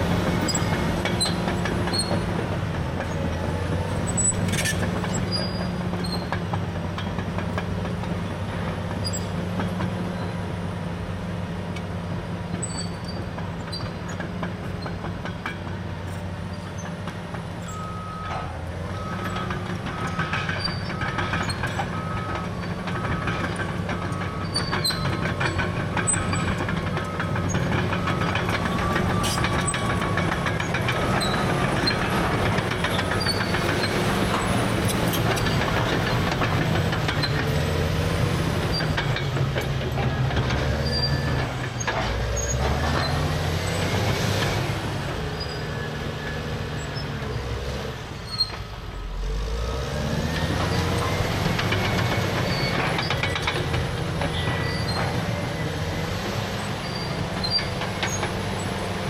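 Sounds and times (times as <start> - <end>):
diesel engine running under load: 0.0 - 59.0
steel tracks clattering and squeaking: 0.0 - 59.0.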